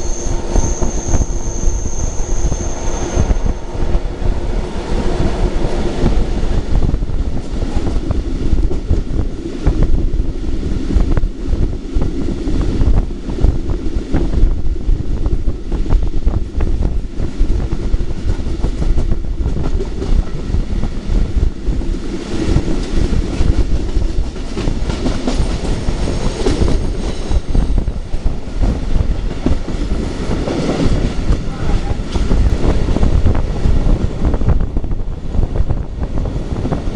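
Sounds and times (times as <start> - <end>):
train rolling past rumbling: 0.0 - 36.9.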